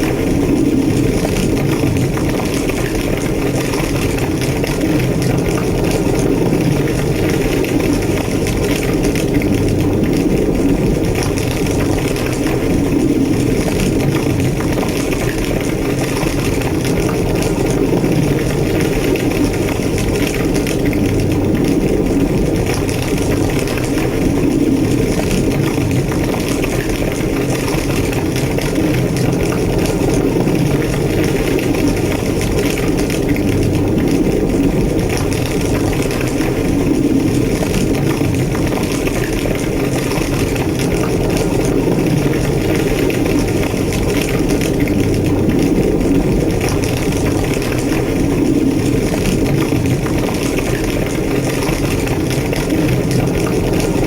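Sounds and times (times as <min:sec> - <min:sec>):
fire crackling: 0:00.0 - 0:54.0
fire roaring: 0:00.0 - 0:54.0.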